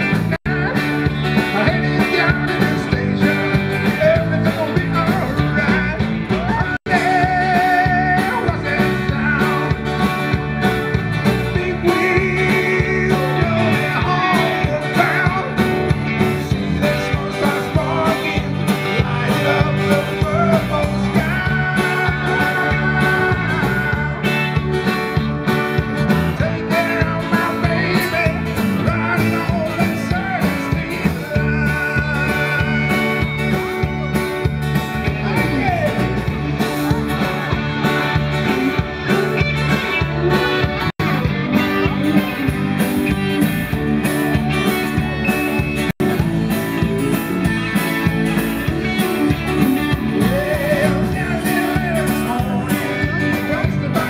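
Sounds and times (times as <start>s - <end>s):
drums with steady beat: 0.0s - 54.0s
electric guitars: 0.0s - 54.0s
fiddles: 0.0s - 54.0s.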